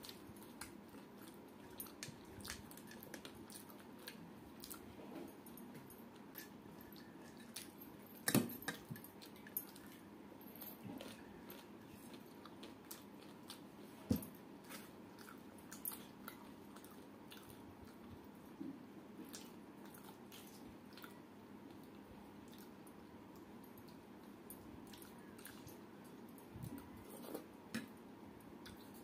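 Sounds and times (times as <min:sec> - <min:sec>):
chewing and mouth sounds: 0:00.0 - 0:07.8, 0:08.7 - 0:29.0.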